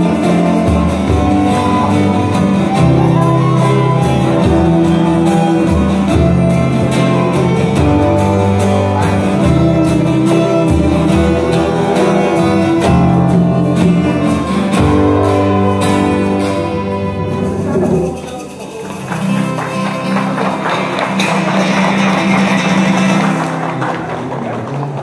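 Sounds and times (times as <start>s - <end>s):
strummed acoustic guitars: 0.0s - 25.0s.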